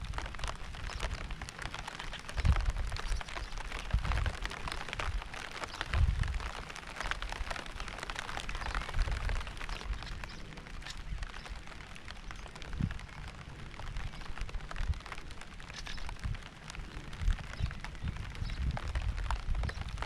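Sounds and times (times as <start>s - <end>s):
rain patter: 0.0s - 20.0s.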